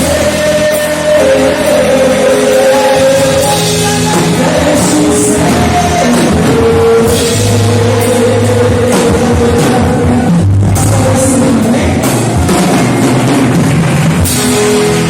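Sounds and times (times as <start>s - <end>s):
person singing: 0.0s - 12.8s
band music with drums: 0.0s - 15.0s.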